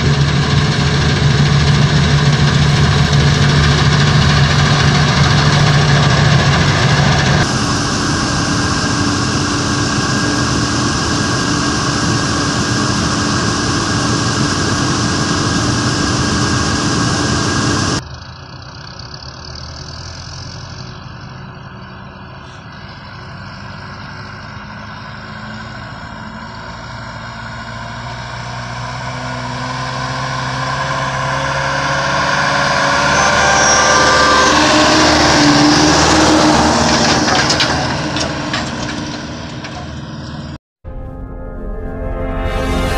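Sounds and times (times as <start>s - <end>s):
diesel truck engine passing: 0.0s - 40.6s
combine harvester running: 0.0s - 41.0s.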